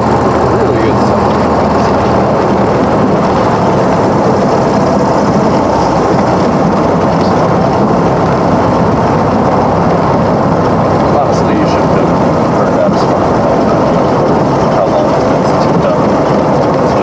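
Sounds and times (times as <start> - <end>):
plane engine and propeller drone: 0.0 - 17.0.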